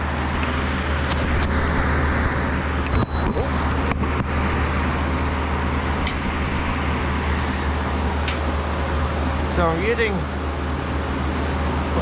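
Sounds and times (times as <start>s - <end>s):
machinery hum and rumble: 0.0s - 12.0s.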